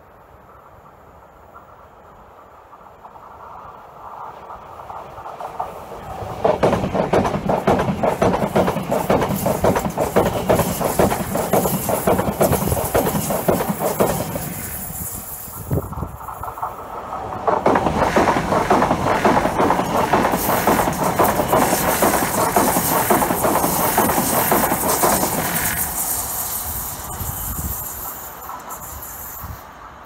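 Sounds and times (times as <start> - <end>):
electric train passing at speed: 0.0 - 30.0
wheels clattering on rails: 2.7 - 30.0.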